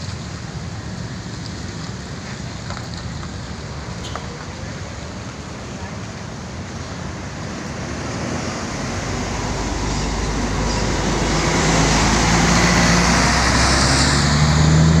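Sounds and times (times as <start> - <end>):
coach diesel engine driving past: 0.0 - 15.0
steady engine hum: 0.0 - 15.0.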